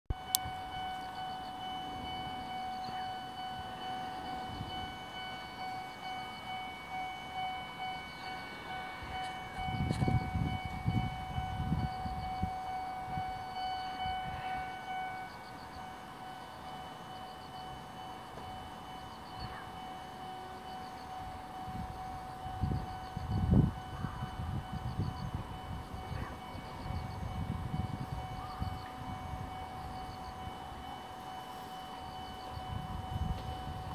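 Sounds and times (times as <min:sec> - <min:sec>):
level crossing warning bell: 0:00.1 - 0:33.9.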